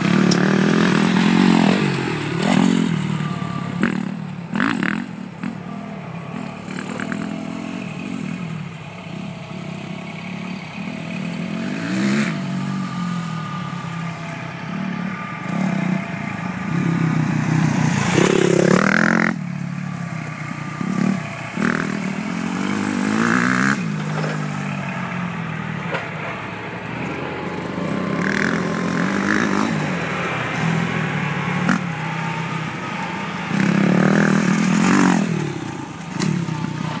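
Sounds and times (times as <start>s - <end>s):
motocross bike revving: 0.0s - 37.0s.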